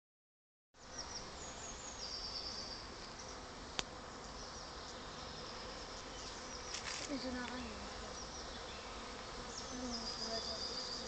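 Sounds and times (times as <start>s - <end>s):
bees humming: 0.8s - 11.0s.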